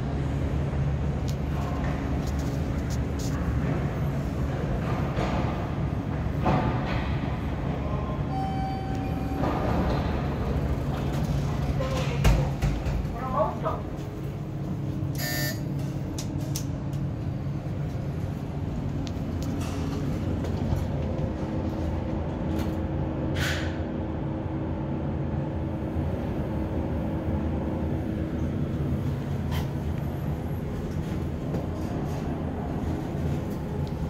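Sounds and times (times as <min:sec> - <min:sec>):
elevator car humming and rumbling: 0:00.0 - 0:34.0.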